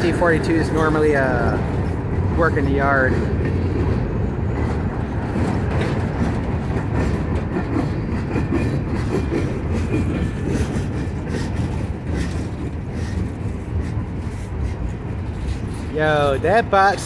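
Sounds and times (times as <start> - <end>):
train wheels clacking on rails: 0.0 - 17.0.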